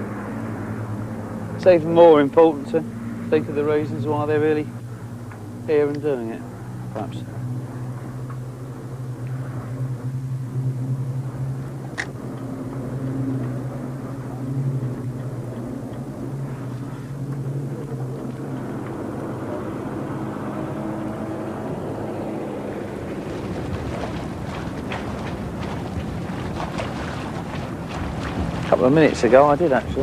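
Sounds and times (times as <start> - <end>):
aircraft engines droning overhead: 0.0 - 30.0.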